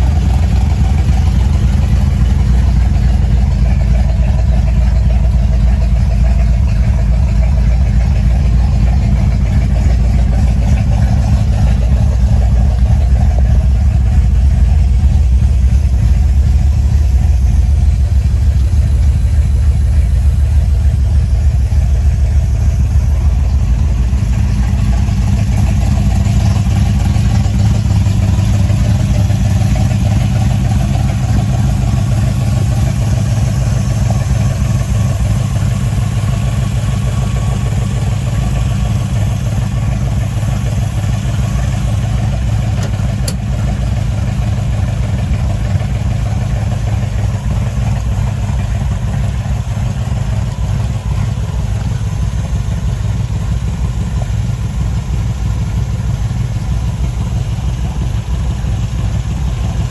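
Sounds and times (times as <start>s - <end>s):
engine idling deep rumble: 0.0s - 59.9s.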